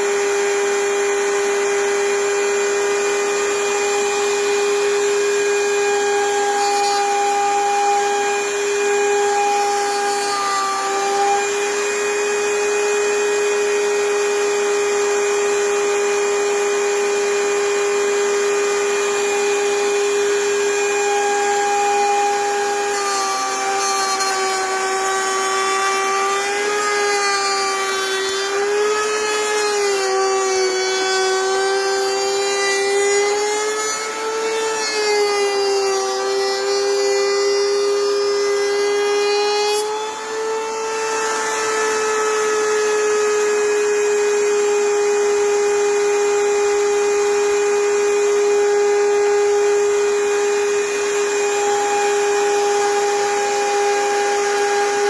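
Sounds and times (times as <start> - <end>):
power tool motor whining: 0.0 - 55.0.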